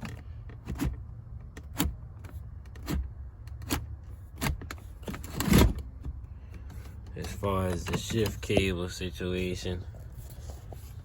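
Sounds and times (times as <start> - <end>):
floor shifter clicking and clunking: 0.0 - 9.0.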